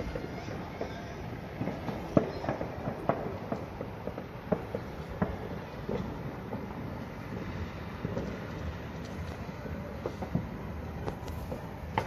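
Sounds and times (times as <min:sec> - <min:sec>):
distant fireworks popping and banging: 0:00.0 - 0:12.0.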